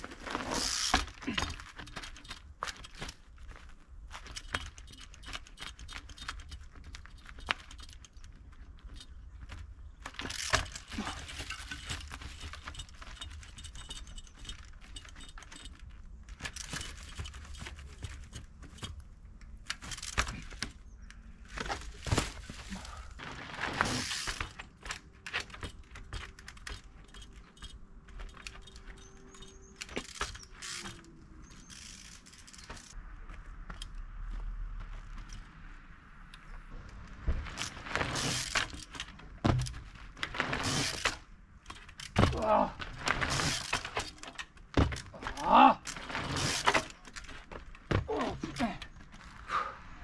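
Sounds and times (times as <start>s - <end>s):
chain and frame rattling: 0.0s - 21.0s, 21.7s - 33.0s, 37.5s - 49.4s
bike knocking on stone: 0.2s - 20.8s, 21.5s - 33.0s, 37.2s - 49.3s.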